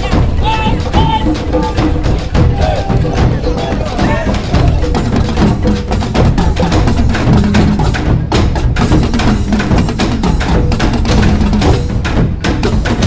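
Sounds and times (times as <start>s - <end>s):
drums playing fast rhythm: 0.0s - 13.0s.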